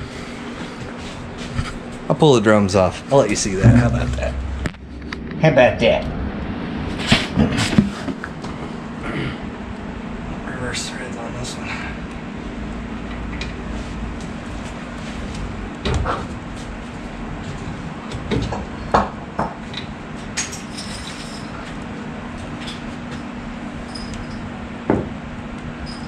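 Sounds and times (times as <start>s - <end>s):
low shop hum: 0.0s - 26.0s.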